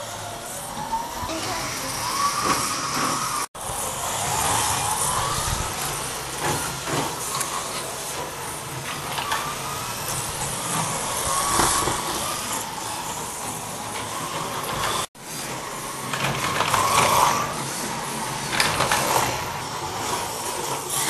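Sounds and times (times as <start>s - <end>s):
small electric motors whining: 0.0s - 21.0s
tyres hissing on track: 0.0s - 21.0s.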